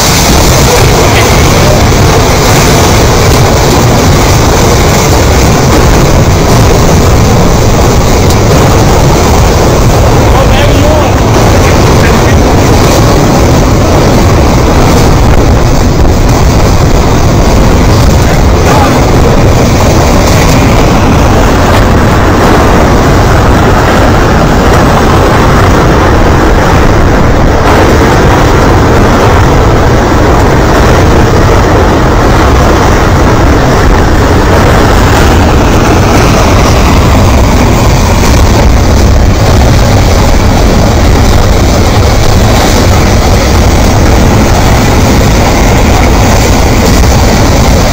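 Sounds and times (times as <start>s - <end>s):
debris flow rumbling: 0.0s - 47.9s.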